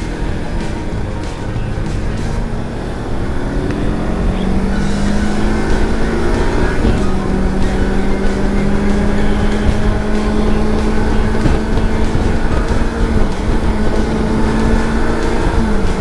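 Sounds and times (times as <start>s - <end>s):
motorcycle engine cruising: 0.0s - 16.0s
road and wind noise: 0.0s - 16.0s.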